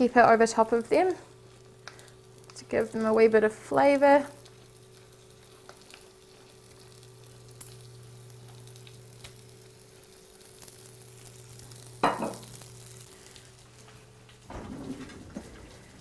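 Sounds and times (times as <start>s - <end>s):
meat sizzling in oil: 0.0s - 14.4s.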